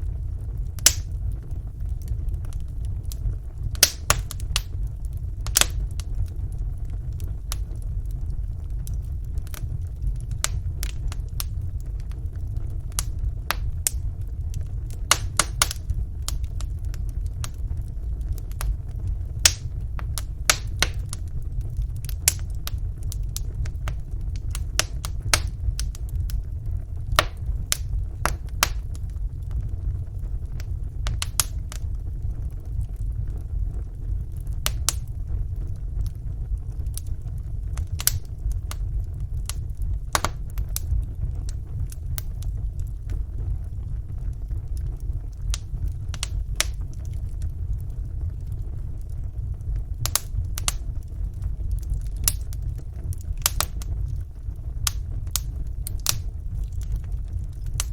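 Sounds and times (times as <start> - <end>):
fire crackling and popping: 0.0 - 57.9
low rumble of flames: 0.0 - 57.9.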